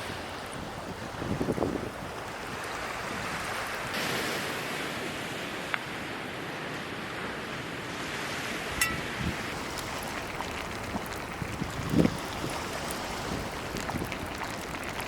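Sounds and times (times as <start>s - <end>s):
ocean waves washing on shore: 0.0s - 15.0s.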